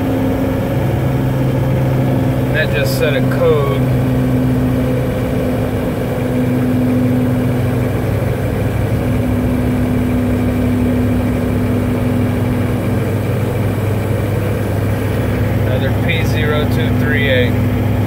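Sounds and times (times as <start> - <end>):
road noise: 0.0 - 18.0
truck engine drone in cab: 0.0 - 18.0.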